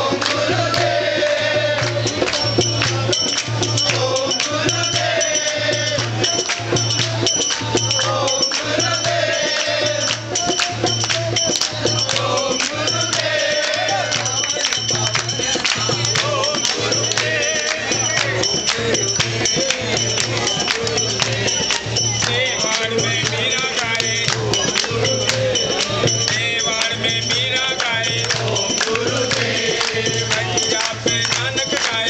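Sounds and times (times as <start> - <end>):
group devotional chanting: 0.0 - 32.0
jingling metal percussion: 0.0 - 32.0
steady low drum beat: 0.0 - 32.0.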